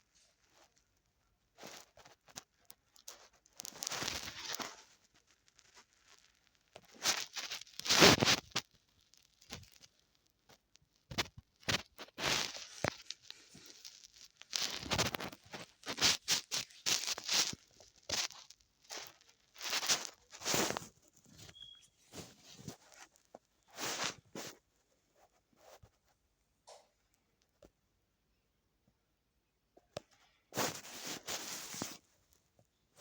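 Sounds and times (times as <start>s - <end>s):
rustling and scraping: 0.0s - 26.8s, 30.1s - 32.4s.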